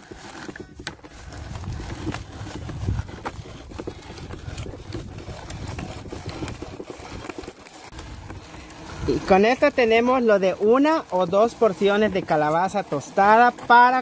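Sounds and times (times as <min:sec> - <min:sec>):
hand-cranked grain mill grinding: 0:00.0 - 0:14.0.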